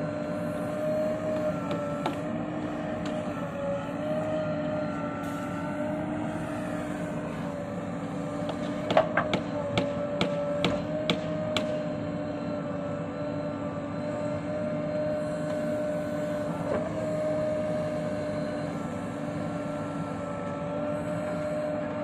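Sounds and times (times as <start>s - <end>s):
diesel engine whining: 0.0s - 22.0s.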